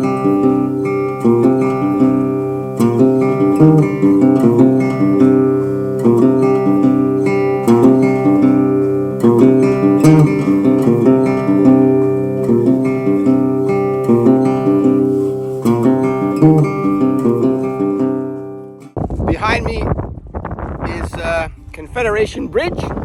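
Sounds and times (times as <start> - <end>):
acoustic guitar playing: 0.0 - 22.1.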